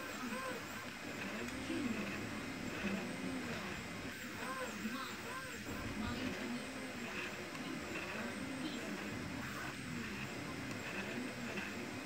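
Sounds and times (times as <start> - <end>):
cooling fans whirring: 0.0 - 12.0
stepper motors whining: 0.0 - 12.0.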